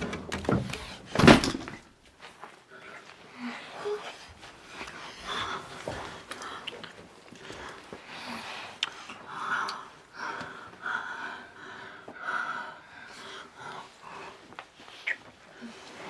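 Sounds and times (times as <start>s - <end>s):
heavy breathy breathing: 2.5s - 16.0s.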